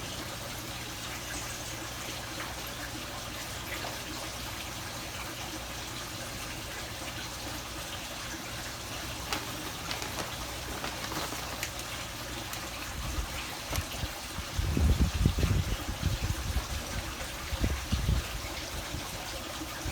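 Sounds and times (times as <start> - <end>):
running water hiss: 0.0 - 19.9.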